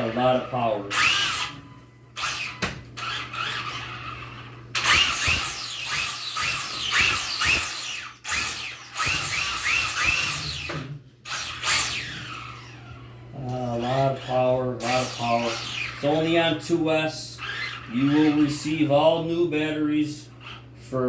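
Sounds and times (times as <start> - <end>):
electric motor whining: 0.0 - 19.4, 20.2 - 20.7.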